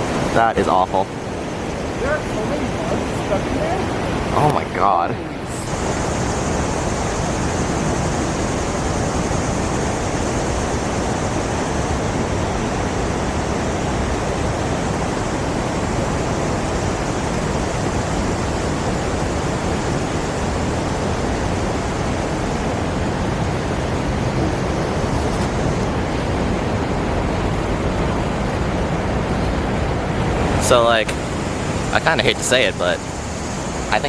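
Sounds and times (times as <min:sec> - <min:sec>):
river rapids roaring: 0:00.0 - 0:34.0.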